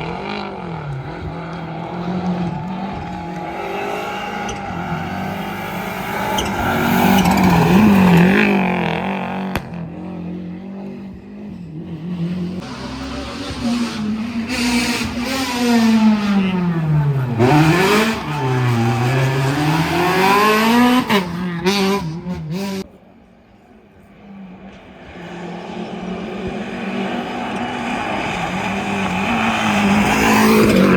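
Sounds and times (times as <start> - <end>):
rally car engines revving: 0.0 - 30.9.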